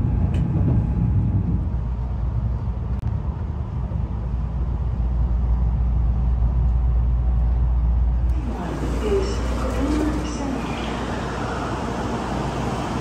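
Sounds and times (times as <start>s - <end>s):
train interior low rumble: 0.0s - 13.0s.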